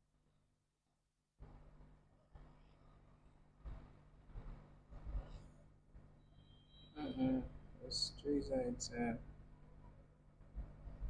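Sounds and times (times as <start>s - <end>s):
faint electrical hum: 1.4s - 11.0s.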